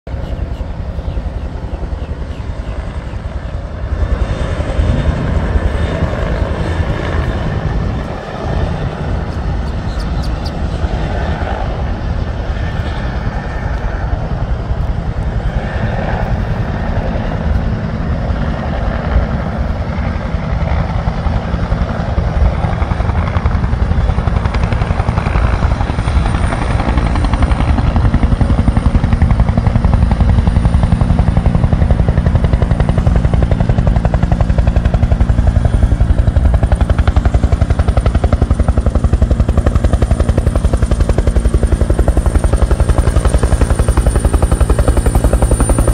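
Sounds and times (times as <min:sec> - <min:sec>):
helicopter rotor beating: 0:00.1 - 0:45.9.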